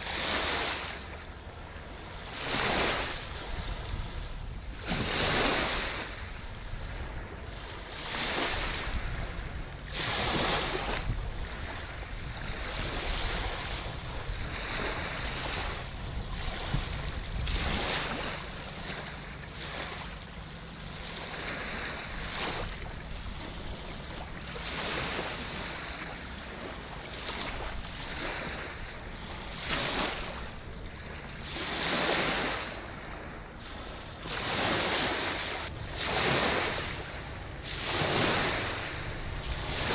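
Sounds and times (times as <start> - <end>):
river water washing on shore: 0.0 - 39.9
wind on microphone: 1.6 - 39.9.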